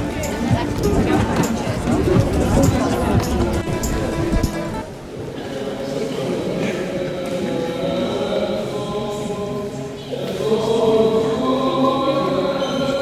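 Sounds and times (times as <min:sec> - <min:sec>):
choir chanting sustained notes: 0:00.0 - 0:13.0.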